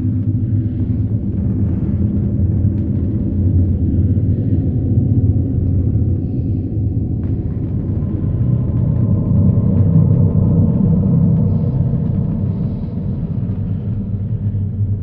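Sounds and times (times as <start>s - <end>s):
dark ambient drone: 0.0s - 15.0s.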